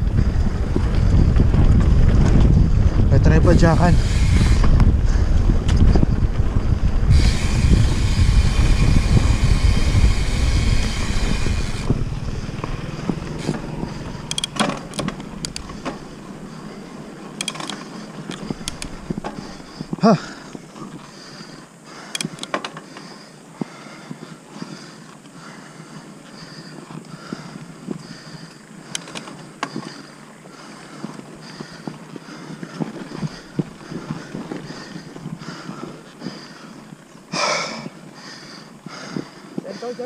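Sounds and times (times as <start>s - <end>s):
wind buffeting microphone: 0.0s - 21.2s, 26.8s - 40.0s
bike clicks and rattles: 0.0s - 25.4s, 26.5s - 37.2s
bike tyre rumble on dirt: 0.0s - 40.0s.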